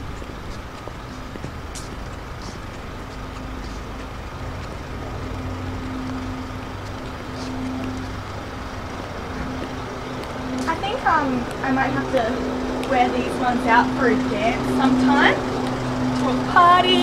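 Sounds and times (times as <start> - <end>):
high heels on concrete: 0.0 - 17.0
low mechanical hum: 0.0 - 17.0.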